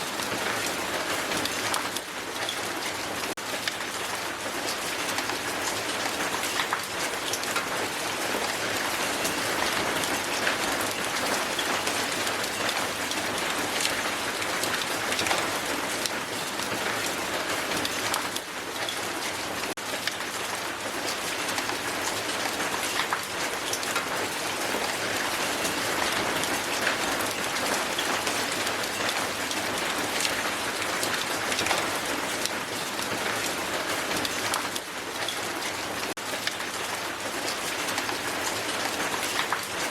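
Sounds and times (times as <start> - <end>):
hail on a hard surface: 0.0 - 39.9.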